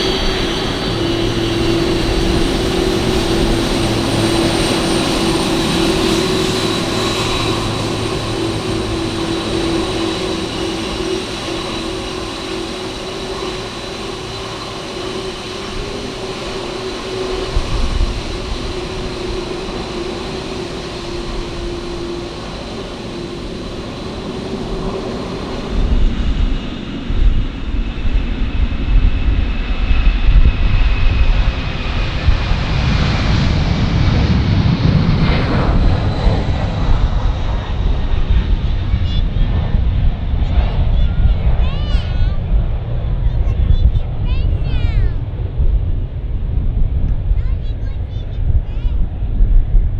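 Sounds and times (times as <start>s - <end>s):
jet engines whining: 0.0s - 49.9s.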